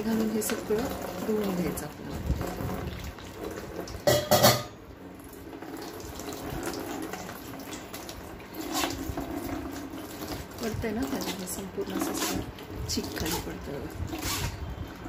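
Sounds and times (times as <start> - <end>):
water splashing through strainer: 0.0 - 15.0.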